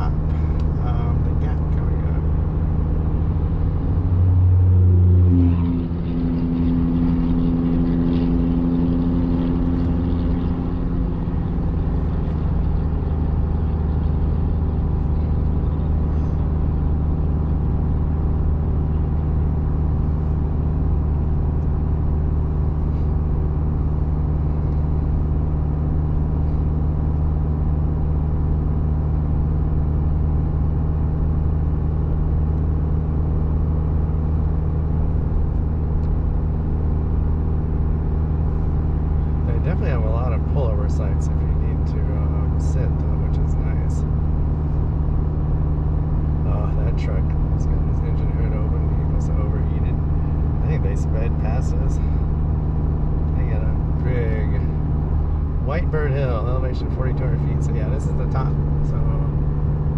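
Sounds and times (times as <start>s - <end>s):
high-pitched hum: 0.0s - 59.9s
vehicle engine under load: 0.0s - 59.9s.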